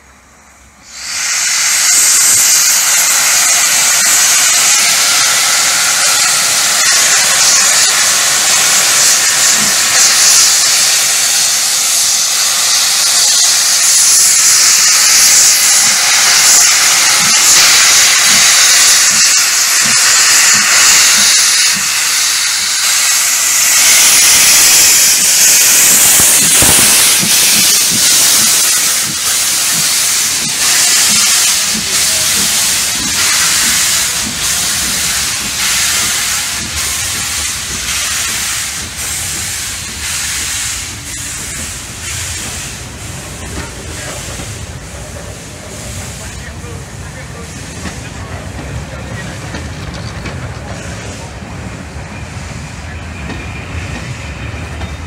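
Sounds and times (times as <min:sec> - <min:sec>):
steam locomotive hissing steam: 0:00.0 - 0:55.0.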